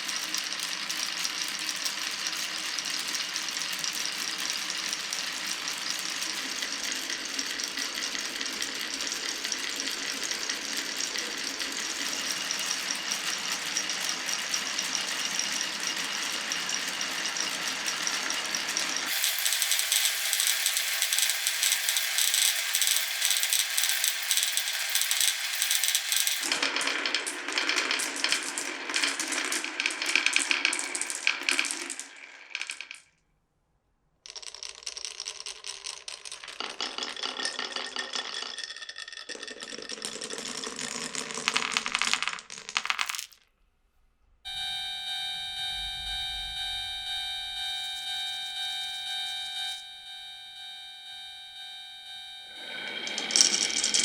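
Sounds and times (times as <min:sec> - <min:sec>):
marbles rattling on wooden run: 0:00.0 - 0:33.0, 0:34.3 - 0:43.4, 0:53.0 - 0:54.0.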